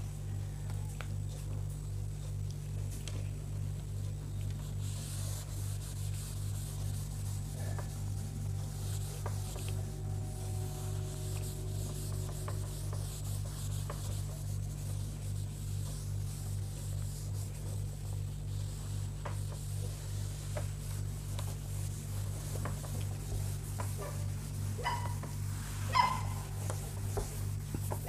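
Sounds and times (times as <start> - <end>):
steady low hum: 0.0 - 28.0
duster wiping a board: 4.6 - 28.0.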